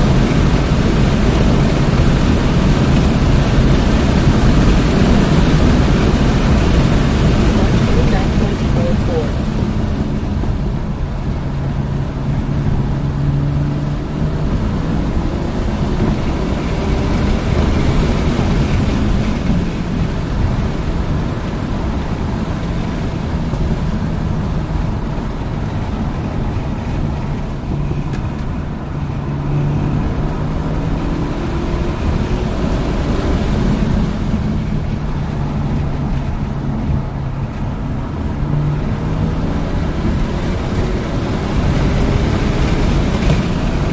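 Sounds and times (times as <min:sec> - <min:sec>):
car engine pulling hard: 0:00.0 - 0:43.9
wind and road noise: 0:00.0 - 0:43.9.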